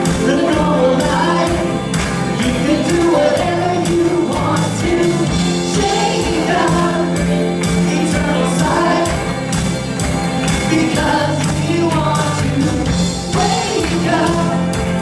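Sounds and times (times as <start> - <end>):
voices singing worship song: 0.0 - 9.7, 10.4 - 15.0
electric guitar: 0.0 - 15.0.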